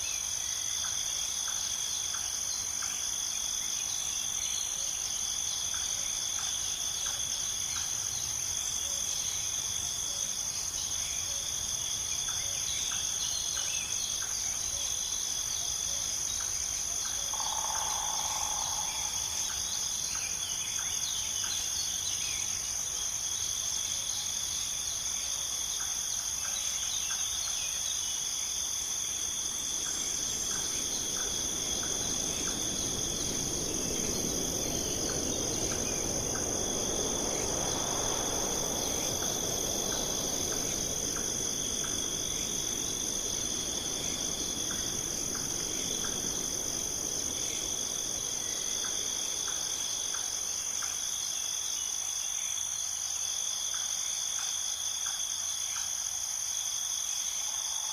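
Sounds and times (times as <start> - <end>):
insects trilling: 0.0 - 57.9.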